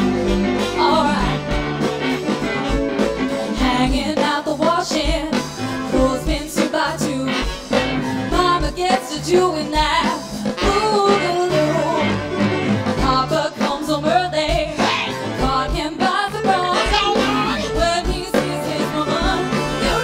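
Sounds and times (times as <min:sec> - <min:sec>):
drums: 0:00.0 - 0:20.0
electric guitar: 0:00.0 - 0:20.0
woman singing lead: 0:00.1 - 0:01.6, 0:03.4 - 0:20.0.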